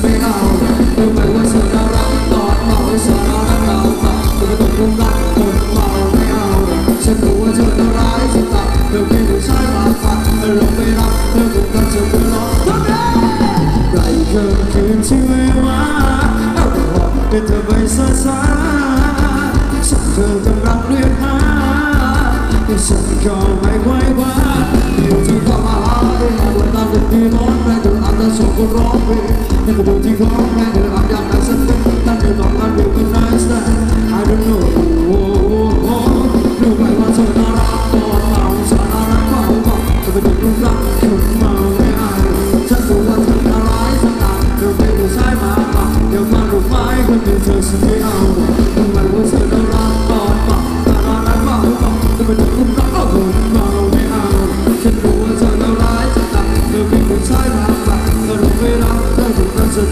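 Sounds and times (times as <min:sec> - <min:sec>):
dance song by live band over pa: 0:00.0 - 0:59.9
person singing: 0:00.0 - 0:59.9.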